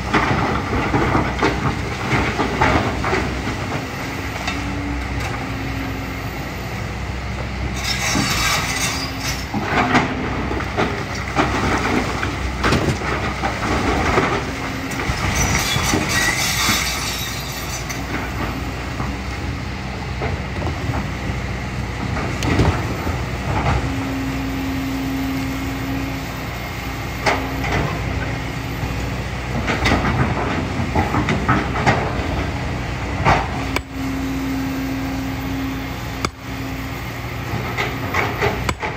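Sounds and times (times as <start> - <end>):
excavator engine and hydraulics hum: 0.0 - 38.9.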